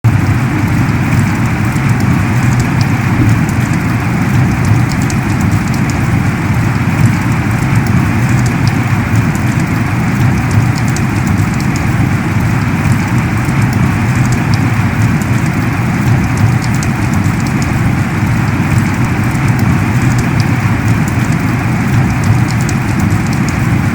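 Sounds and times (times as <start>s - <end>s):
heavy rain pouring: 0.0s - 23.9s
raindrops ticking: 0.0s - 23.9s.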